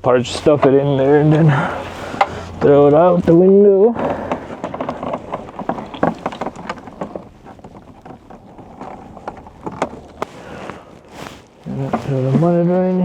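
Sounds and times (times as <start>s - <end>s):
power cable handling clicks and rustling: 0.6s - 12.3s.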